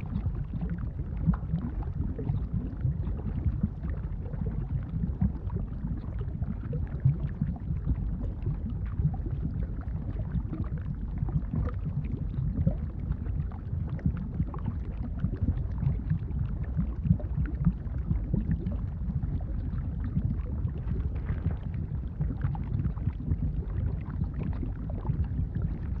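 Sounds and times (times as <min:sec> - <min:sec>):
deep rumble: 0:00.0 - 0:26.0
thick bubbles popping: 0:00.0 - 0:26.0.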